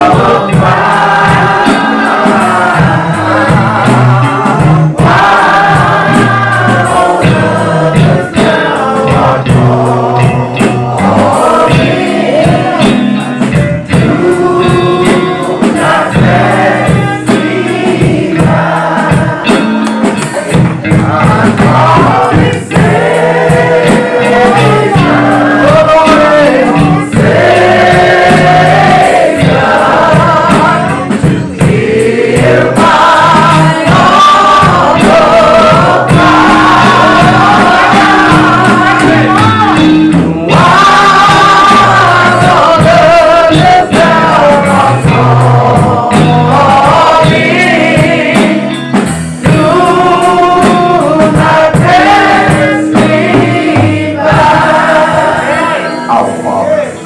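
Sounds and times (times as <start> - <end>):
choir singing gospel: 0.0 - 57.0.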